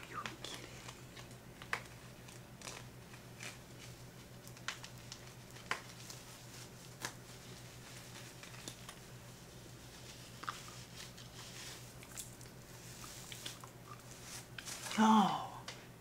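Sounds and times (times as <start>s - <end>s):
faint rustling of hair: 0.0s - 15.1s
low steady hum: 0.0s - 16.0s.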